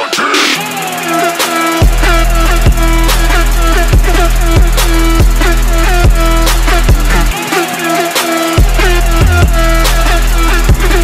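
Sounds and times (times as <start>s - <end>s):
electronic music with drums and bass: 0.0s - 11.0s.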